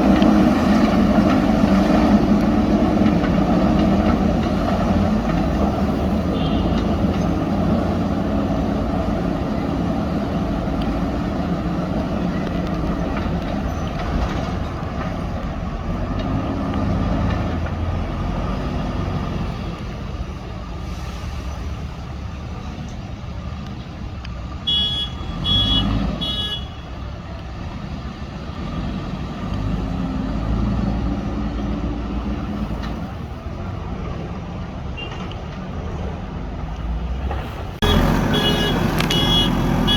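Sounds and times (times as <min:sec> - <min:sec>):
diesel engine running under load: 0:00.0 - 0:34.4, 0:36.1 - 0:39.9.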